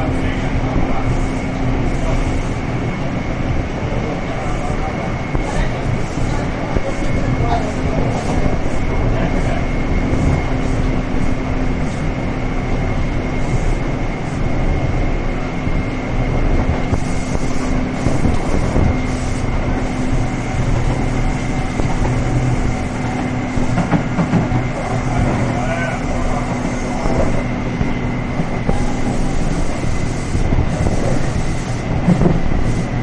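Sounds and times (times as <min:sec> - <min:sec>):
steady humming tone: 0:00.0 - 0:33.0
train wheels rumbling on rail: 0:00.0 - 0:33.0.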